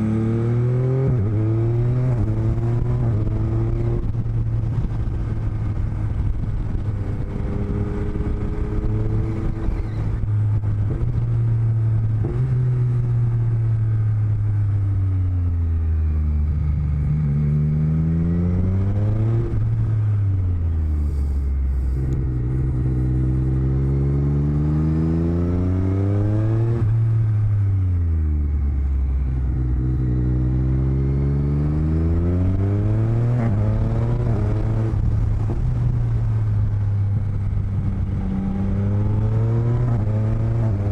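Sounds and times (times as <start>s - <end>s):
wind noise: 0.0s - 13.0s, 16.5s - 27.7s, 29.8s - 40.9s
motorcycle engine: 0.0s - 40.9s.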